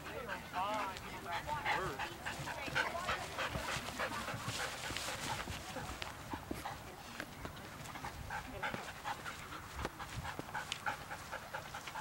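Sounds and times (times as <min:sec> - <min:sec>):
dog panting: 0:00.0 - 0:06.8, 0:07.8 - 0:12.0.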